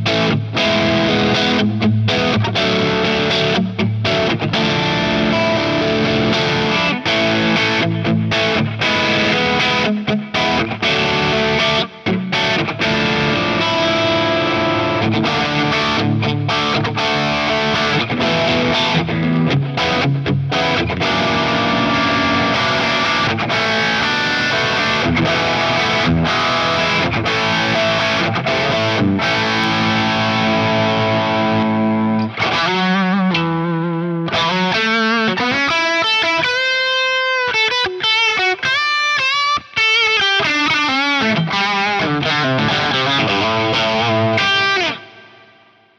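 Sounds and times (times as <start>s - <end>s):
distorted electric guitar riffing: 0.0s - 45.9s.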